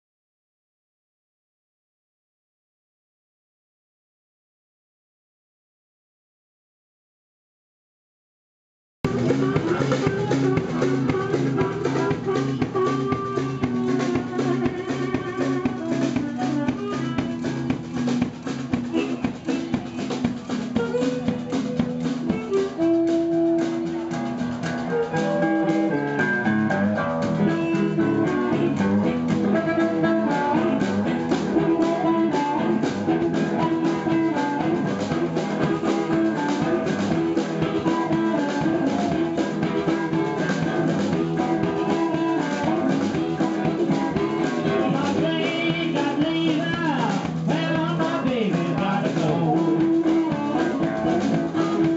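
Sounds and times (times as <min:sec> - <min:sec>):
blues guitar: 0:09.1 - 0:51.9
drum kit beat: 0:09.1 - 0:51.9.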